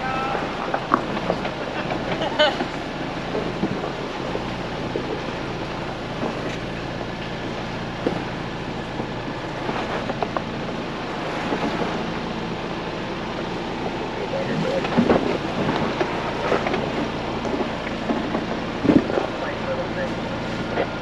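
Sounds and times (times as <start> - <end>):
engine and road noise: 0.0 - 21.0.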